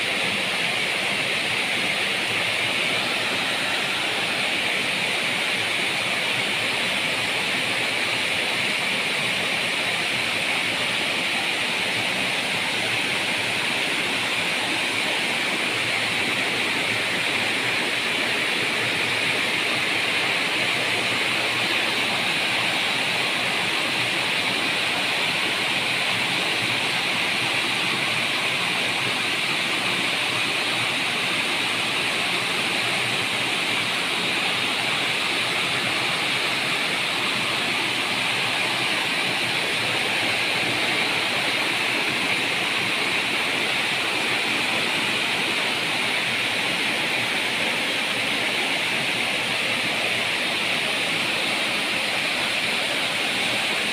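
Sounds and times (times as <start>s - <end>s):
stream rushing over boulders: 0.0s - 53.9s.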